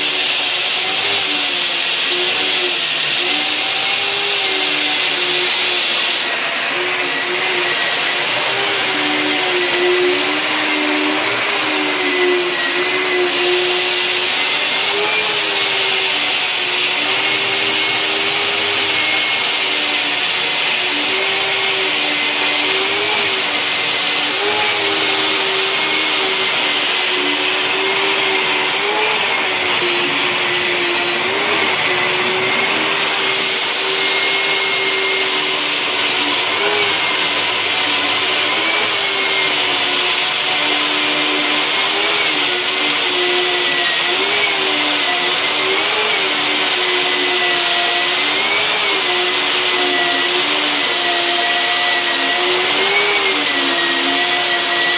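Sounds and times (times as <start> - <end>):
core drill cutting concrete: 0.0 - 54.9.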